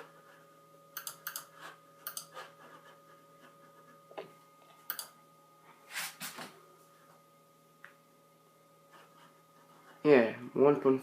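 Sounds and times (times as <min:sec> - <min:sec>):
faint computer electrical hum: 0:00.0 - 0:11.0.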